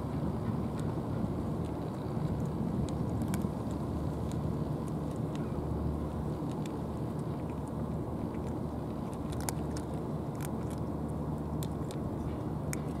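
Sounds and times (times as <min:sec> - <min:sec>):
cats crunching dry food: 0:00.0 - 0:13.0
low outdoor rumble: 0:00.0 - 0:13.0.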